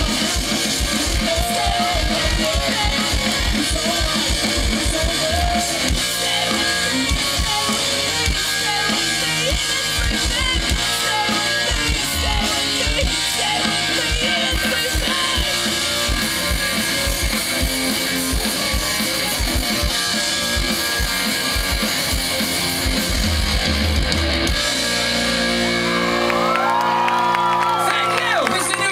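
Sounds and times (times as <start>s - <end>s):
driving drum kit: 0.0s - 28.9s
electric guitar: 0.0s - 28.9s.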